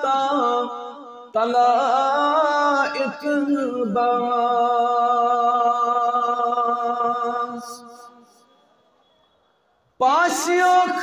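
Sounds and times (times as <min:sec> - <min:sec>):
man singing a chant: 0:00.0 - 0:08.4, 0:10.0 - 0:11.0.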